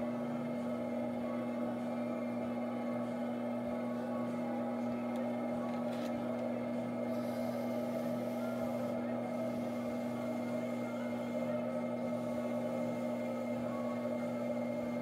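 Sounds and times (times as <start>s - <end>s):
potter's wheel motor humming: 0.0s - 15.0s.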